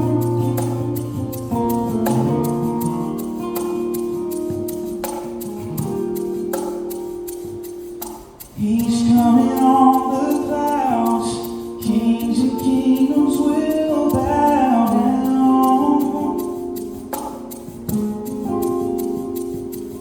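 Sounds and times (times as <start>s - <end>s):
steady ticking beat: 0.0s - 20.0s.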